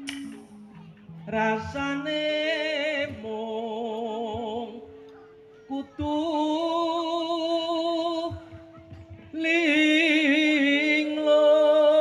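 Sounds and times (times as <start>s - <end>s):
person singing through loud speakers: 0.0s - 12.0s.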